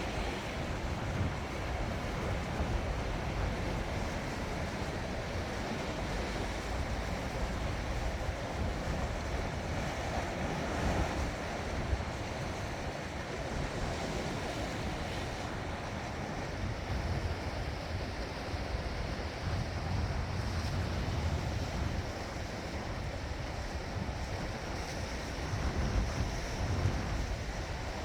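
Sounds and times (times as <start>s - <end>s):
sea waves washing on shore: 0.0s - 28.0s
wind buffeting microphone: 0.0s - 28.0s.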